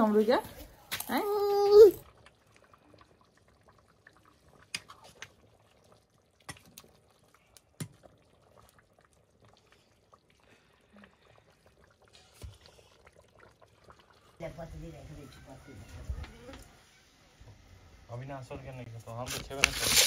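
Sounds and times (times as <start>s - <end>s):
faint bubbling of curry simmering: 0.0s - 19.3s.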